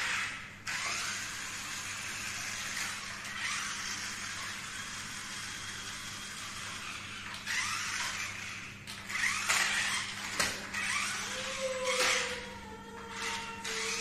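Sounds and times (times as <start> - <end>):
toy car electric motor whine: 0.0 - 14.0.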